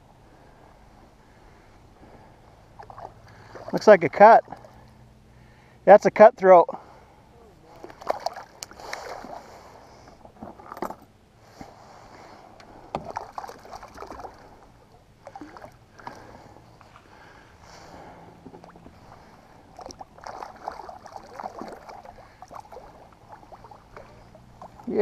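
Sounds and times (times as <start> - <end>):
water splashing and sloshing: 0.3 - 5.6, 7.5 - 25.0.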